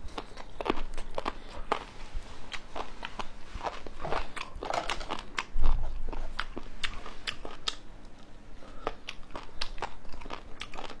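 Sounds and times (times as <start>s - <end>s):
crunching fried meat: 0.0s - 7.9s, 8.8s - 11.0s.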